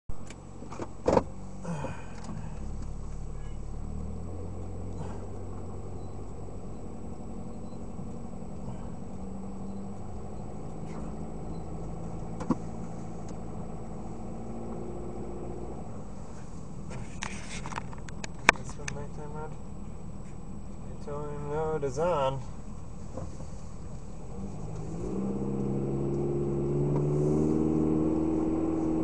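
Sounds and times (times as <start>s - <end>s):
car engine and road noise: 0.1s - 29.0s.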